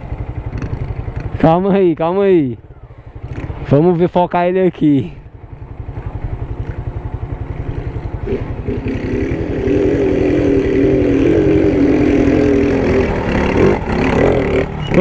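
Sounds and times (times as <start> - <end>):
motorcycle engine pulling hard: 0.0 - 2.4, 3.2 - 4.1, 5.6 - 15.0
motorcycle idling: 0.0 - 15.0.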